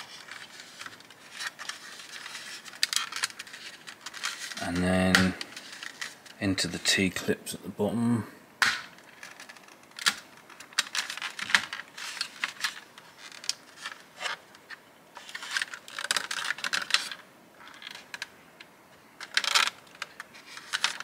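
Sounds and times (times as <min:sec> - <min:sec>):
plastic parts clicking and scraping: 0:00.0 - 0:06.4, 0:08.6 - 0:21.0.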